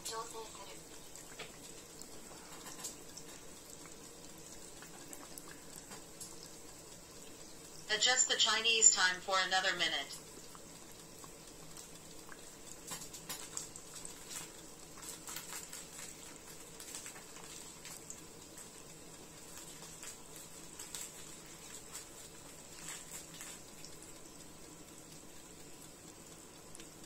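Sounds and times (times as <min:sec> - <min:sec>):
buns frying in oil: 0:00.0 - 0:27.0.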